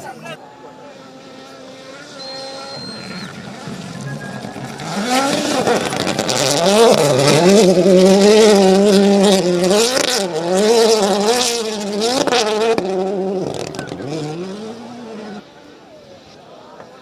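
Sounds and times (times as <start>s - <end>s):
rally car engine revving: 0.6s - 16.4s.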